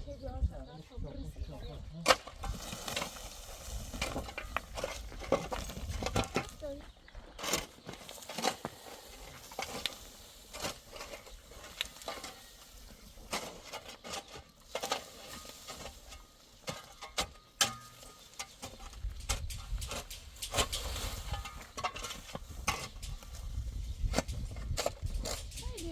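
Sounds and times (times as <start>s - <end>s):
hand tools scraping and tapping: 2.1s - 25.9s.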